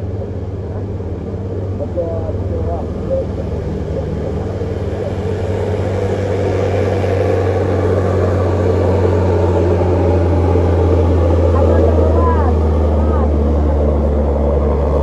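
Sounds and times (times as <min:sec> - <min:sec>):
truck diesel engine humming: 0:00.0 - 0:15.0.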